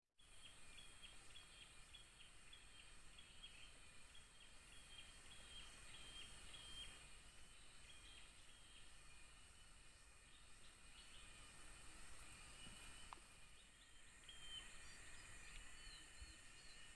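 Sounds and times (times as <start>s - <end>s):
faint high insect hum: 0.2s - 16.9s.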